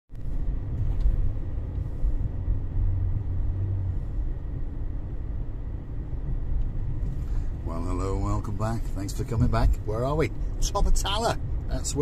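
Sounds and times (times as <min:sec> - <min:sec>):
car engine and road rumble: 0:00.1 - 0:12.0.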